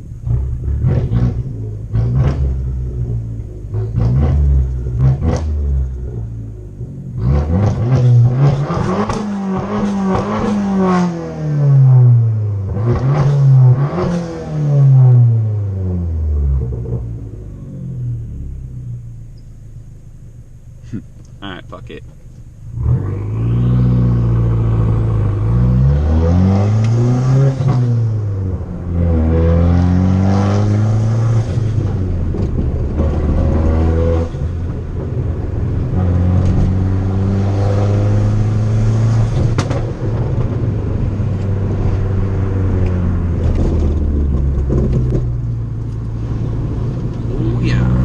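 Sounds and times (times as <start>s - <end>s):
car engine accelerating through gears: 0.0s - 19.4s, 22.7s - 48.0s.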